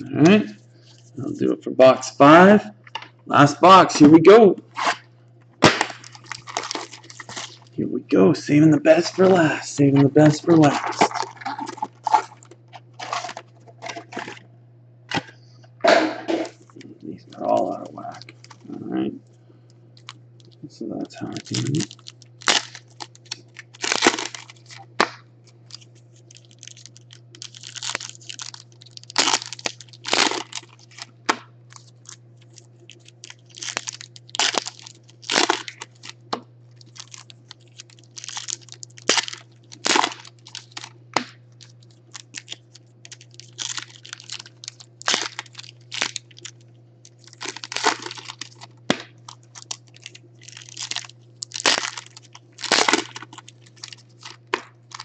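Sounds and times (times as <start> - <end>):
foil packs torn and crinkled: 4.7 - 7.7, 8.9 - 14.4, 17.4 - 18.8, 20.0 - 55.0.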